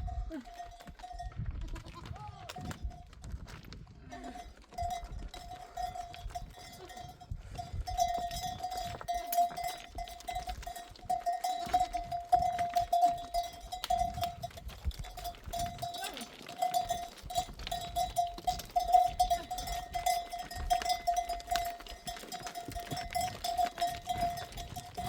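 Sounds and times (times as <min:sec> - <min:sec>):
animal bells clinking: 0:00.0 - 0:25.0.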